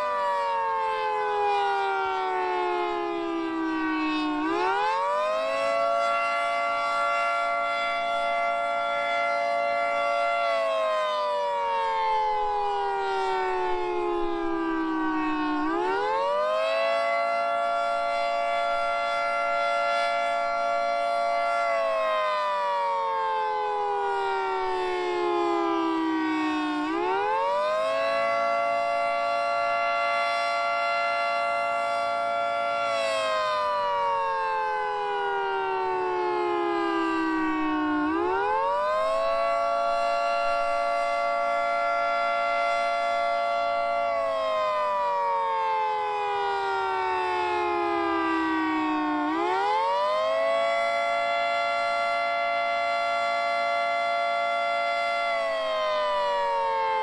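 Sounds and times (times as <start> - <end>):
dual-tone warning siren wail: 0.0 - 57.0.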